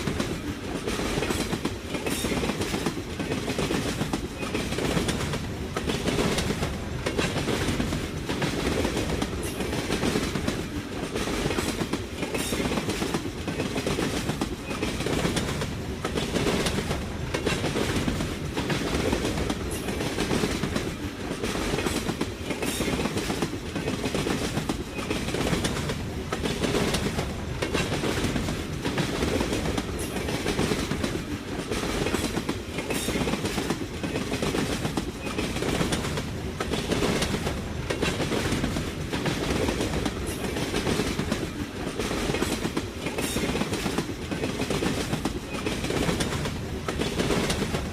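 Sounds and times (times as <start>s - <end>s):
train rumbling past: 0.0s - 47.9s.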